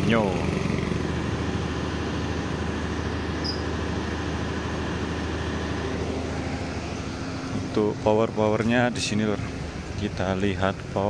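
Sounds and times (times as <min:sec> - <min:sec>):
diesel generator running: 0:00.0 - 0:11.0.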